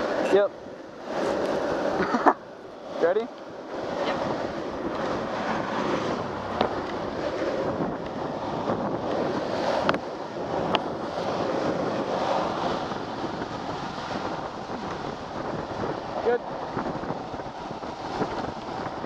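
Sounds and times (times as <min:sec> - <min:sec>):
longboard wheels rolling on asphalt: 0:00.0 - 0:19.0
wind rushing over microphone: 0:00.0 - 0:19.0.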